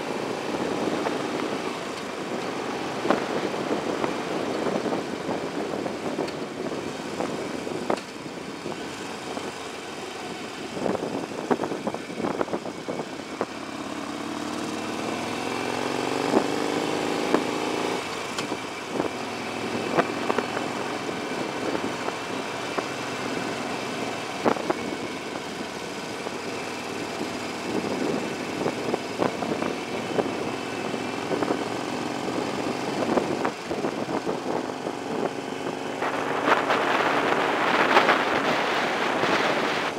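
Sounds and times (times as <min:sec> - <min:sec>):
wind noise: 0:00.0 - 0:13.6, 0:15.8 - 0:39.9
motorcycle engine: 0:00.0 - 0:39.9.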